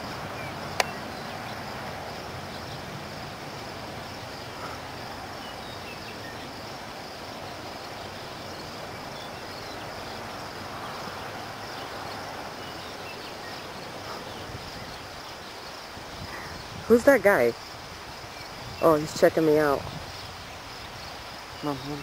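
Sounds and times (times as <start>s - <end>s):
high insect buzz: 0.0s - 22.0s.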